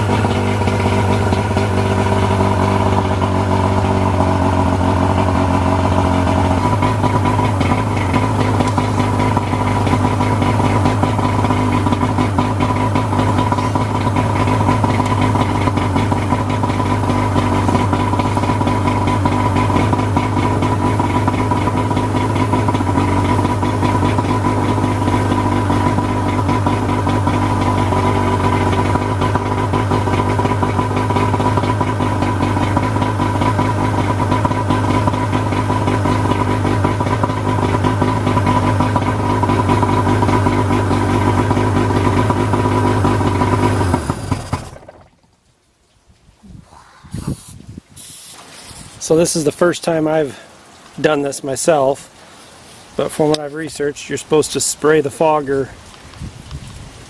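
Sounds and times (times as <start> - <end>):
outboard motor idling: 0.0 - 56.8.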